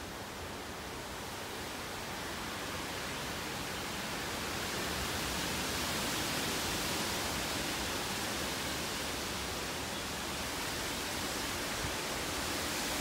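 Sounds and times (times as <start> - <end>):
wind rushing through pine trees: 0.0 - 13.0.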